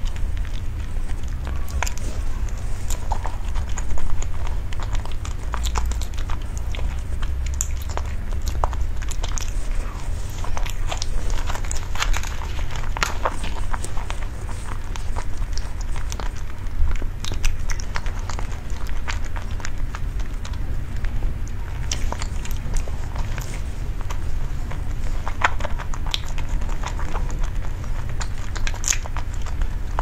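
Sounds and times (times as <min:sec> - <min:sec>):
biting and chewing cake: 0:00.0 - 0:30.0
low hum: 0:00.0 - 0:30.0.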